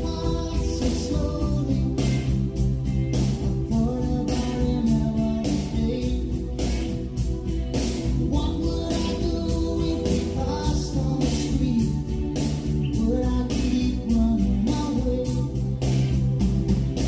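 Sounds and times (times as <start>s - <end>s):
song with singing and beat: 0.0s - 17.0s.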